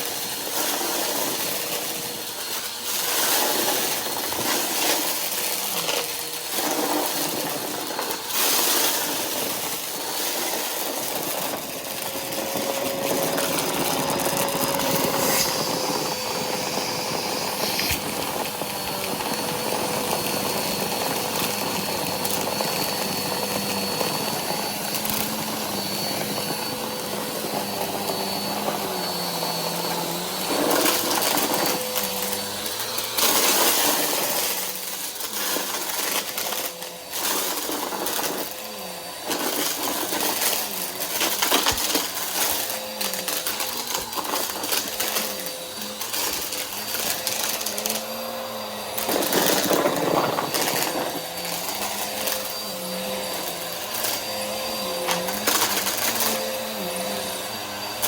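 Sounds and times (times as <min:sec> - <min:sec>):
vacuum cleaner whining: 0:00.0 - 0:58.0.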